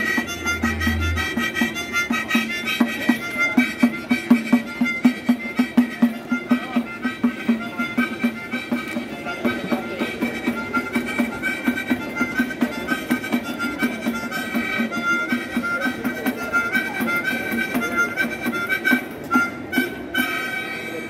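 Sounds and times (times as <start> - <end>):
harmonica melody: 0.0 - 21.0
pandeiro beat: 0.0 - 21.0.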